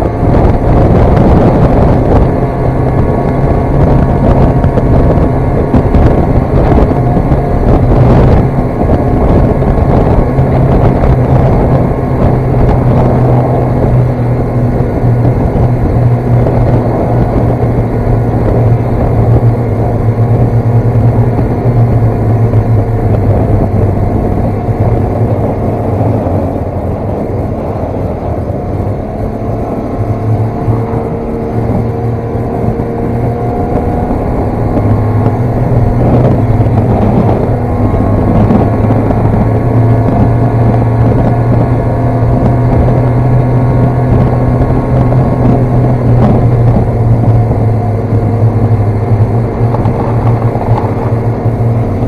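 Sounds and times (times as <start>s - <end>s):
snowmobile engine drone: 0.0s - 52.0s.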